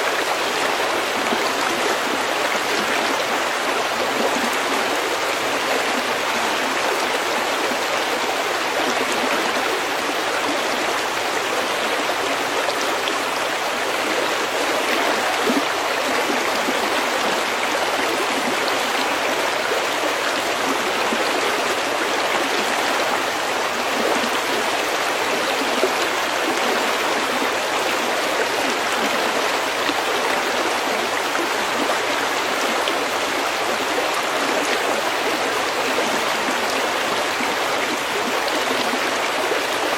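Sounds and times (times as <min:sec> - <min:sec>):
brook flowing over pebbles: 0:00.0 - 0:39.9.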